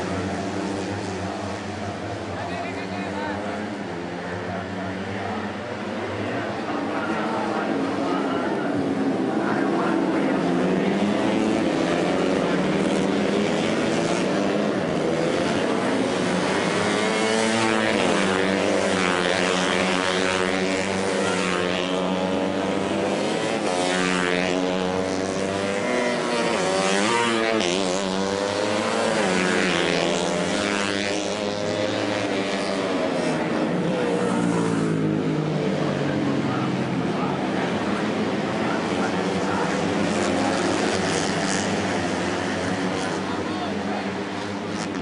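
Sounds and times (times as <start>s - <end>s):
racing motorcycle engines revving: 0.0s - 45.0s.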